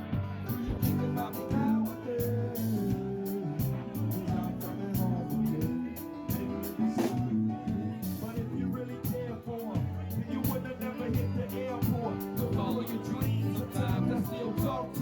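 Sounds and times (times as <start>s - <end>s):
drum kit beat: 0.0s - 15.0s
live band playing: 0.0s - 15.0s.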